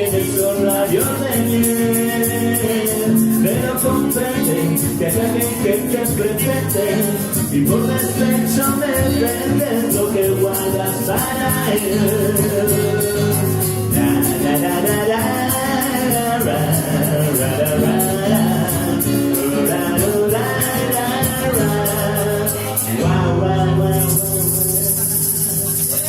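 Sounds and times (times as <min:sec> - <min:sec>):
live band instrumental music: 0:00.0 - 0:26.0.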